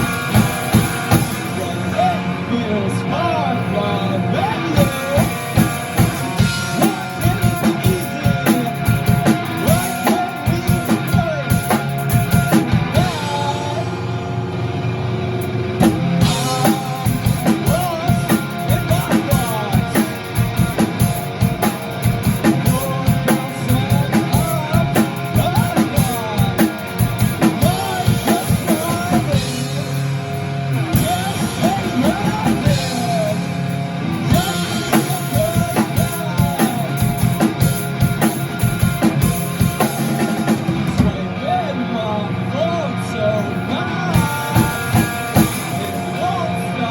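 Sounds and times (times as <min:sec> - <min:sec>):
drum kit beat: 0:00.0 - 0:02.1, 0:04.5 - 0:13.5, 0:15.4 - 0:41.2, 0:44.1 - 0:46.4
person singing: 0:00.0 - 0:14.6, 0:15.8 - 0:46.9
electric guitar: 0:00.0 - 0:46.9
rock band playing: 0:00.0 - 0:46.9.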